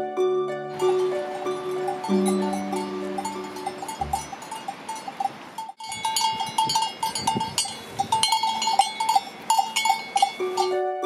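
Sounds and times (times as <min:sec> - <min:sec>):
livestock neck bells clanking: 0:00.8 - 0:10.9.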